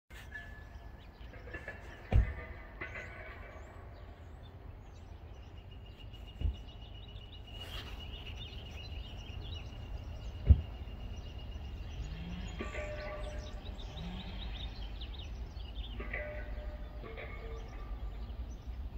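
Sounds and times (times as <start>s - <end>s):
birds chirping: 0.1s - 18.9s.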